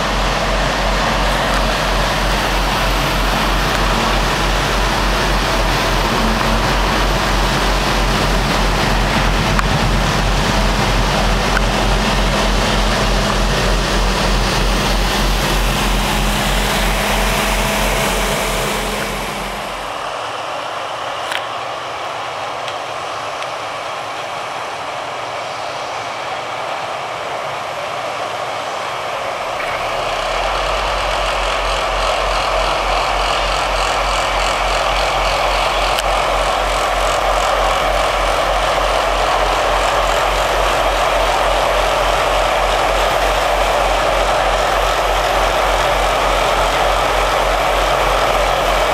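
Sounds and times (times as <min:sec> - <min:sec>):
diesel engine rumbling: 0:00.0 - 0:20.5, 0:29.1 - 0:48.9
distant road machinery: 0:00.0 - 0:48.9.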